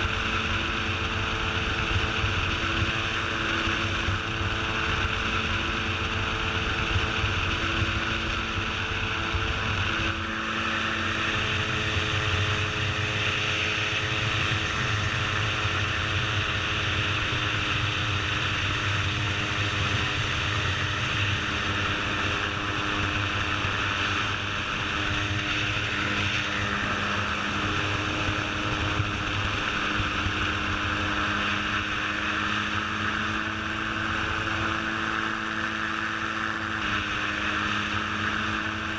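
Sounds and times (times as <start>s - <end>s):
aircraft engine and propeller droning: 0.0s - 38.9s
wind rushing over microphone: 0.0s - 38.9s.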